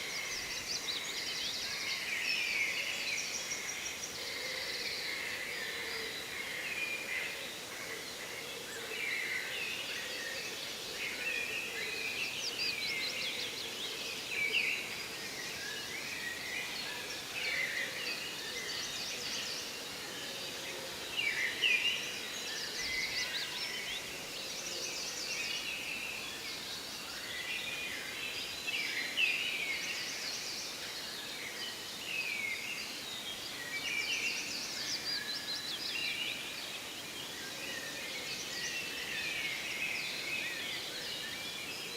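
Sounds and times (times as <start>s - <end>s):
songbirds trilling and chirping: 0.0s - 41.9s
steady background hiss: 0.0s - 41.9s.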